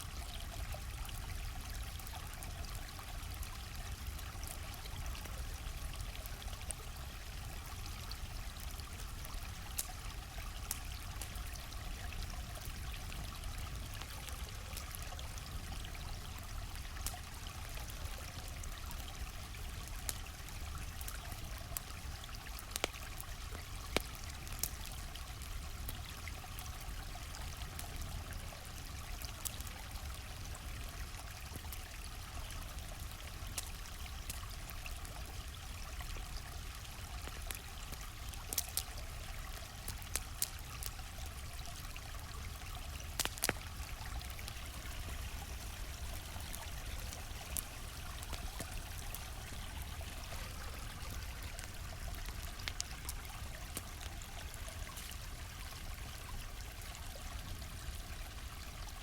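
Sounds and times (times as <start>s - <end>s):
campfire crackling: 0.0s - 59.0s
stream flowing: 0.0s - 59.0s.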